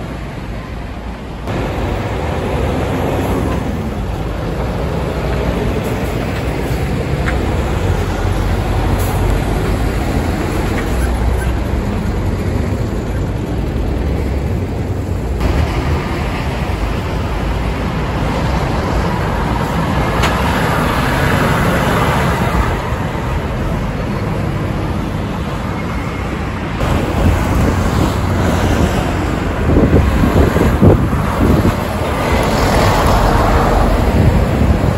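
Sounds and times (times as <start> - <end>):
traffic noise: 0.0 - 34.9
truck diesel engines under load: 0.0 - 34.9.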